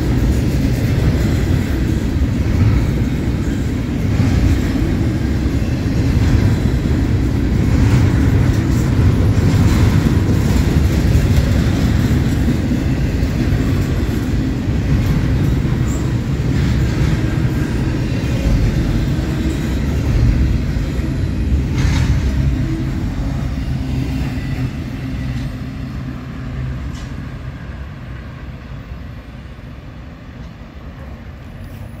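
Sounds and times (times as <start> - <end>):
train wheel clack: 0.0 - 27.4
freight train wheels rumbling: 0.0 - 32.0.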